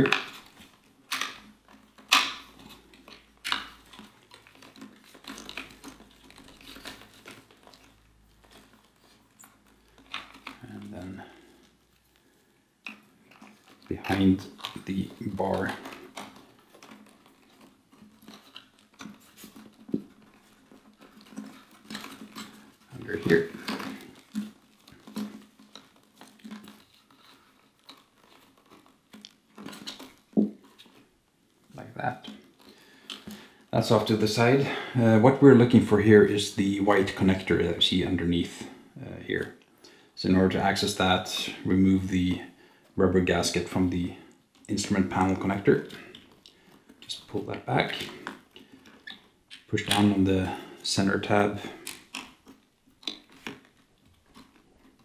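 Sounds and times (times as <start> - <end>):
cable rubbing against plastic: 0.0 - 55.0.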